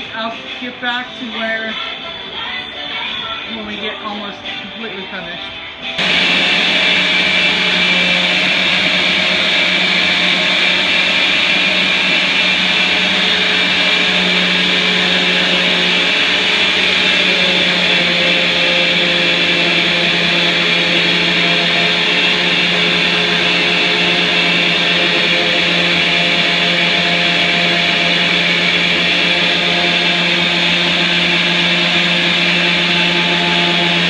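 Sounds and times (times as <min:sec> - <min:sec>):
orbital sander humming: 0:06.0 - 0:34.0.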